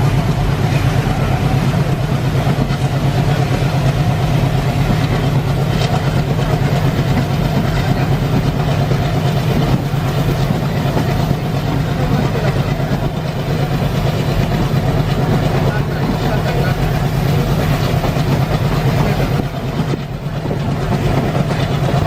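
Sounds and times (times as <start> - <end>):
diesel locomotive engine chugging: 0.0 - 22.0
train coaches running noise: 0.0 - 22.0.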